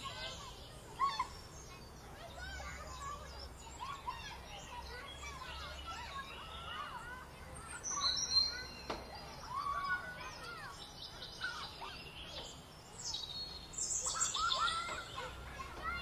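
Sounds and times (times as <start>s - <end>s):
birds chirping and singing: 0.0s - 16.0s.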